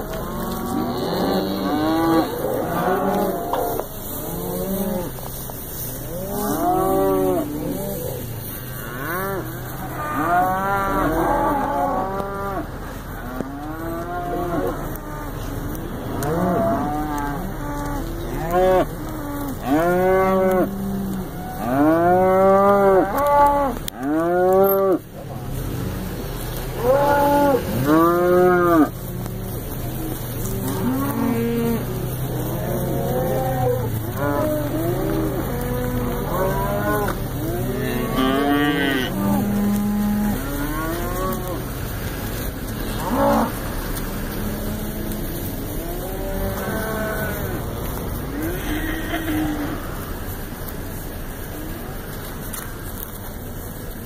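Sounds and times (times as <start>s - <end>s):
cattle mooing: 0.0s - 5.3s, 5.9s - 25.0s, 26.6s - 50.2s.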